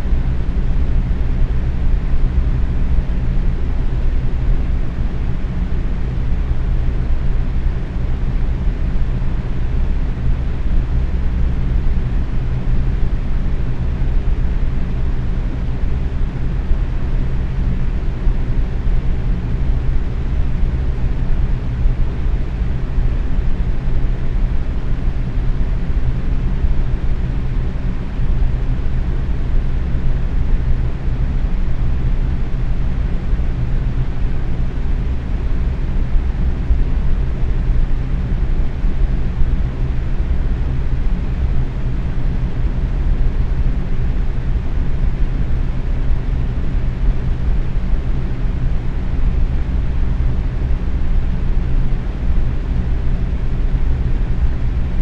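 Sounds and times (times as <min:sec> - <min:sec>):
faint fan hum: 0:00.0 - 0:55.0
fan air whoosh: 0:00.0 - 0:55.0.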